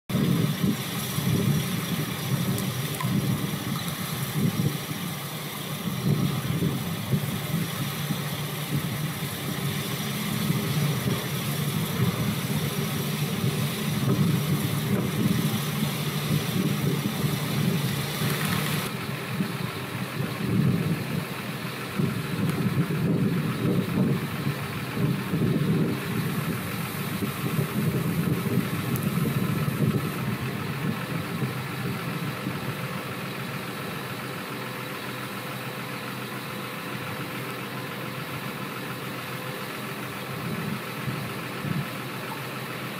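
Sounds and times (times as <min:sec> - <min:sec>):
heavy engine idling: 0:00.0 - 0:42.9.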